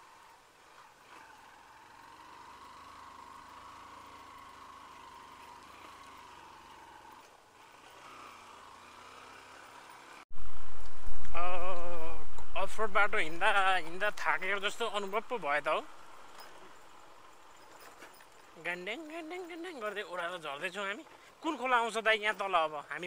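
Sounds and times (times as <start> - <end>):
faint engine hum: 0.0 - 20.0.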